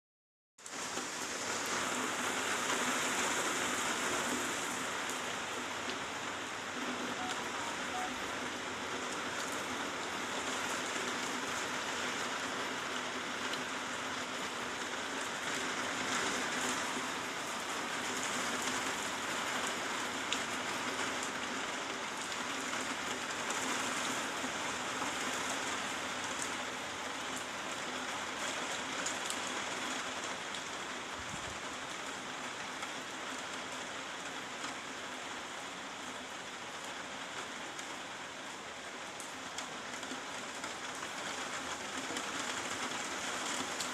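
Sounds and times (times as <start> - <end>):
steady rain falling: 0.6 - 43.9.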